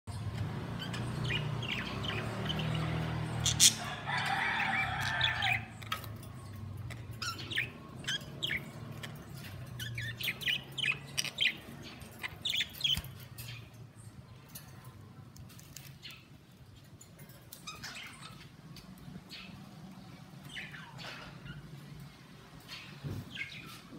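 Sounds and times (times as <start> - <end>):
budgerigars chirping and chattering: 0.1 - 14.6, 15.4 - 23.9.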